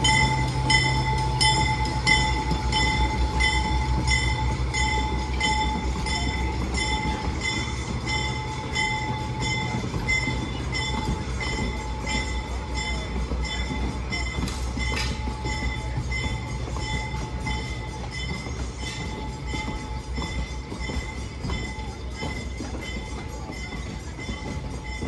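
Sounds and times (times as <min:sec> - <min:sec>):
crossing signal bell ringing: 0:00.0 - 0:25.0
train coaches rumbling on track: 0:00.0 - 0:25.0.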